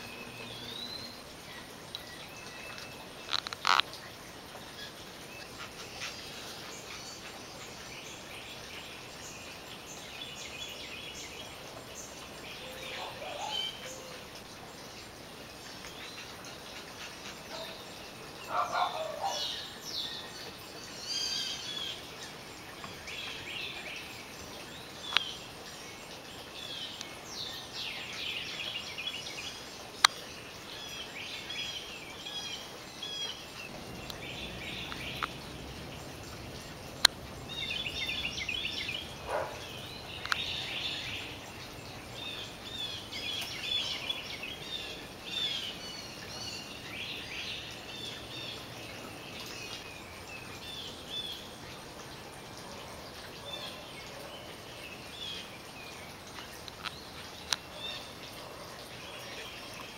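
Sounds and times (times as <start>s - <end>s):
small birds chirping: 0.0s - 59.9s
steady outdoor hiss: 0.0s - 59.9s.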